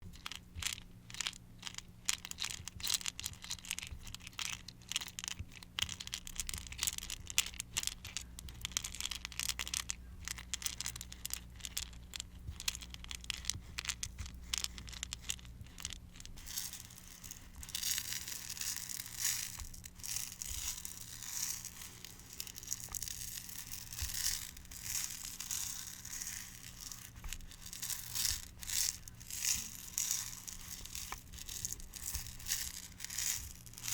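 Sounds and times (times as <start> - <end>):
close-up crackling and crinkling: 0.0 - 33.9.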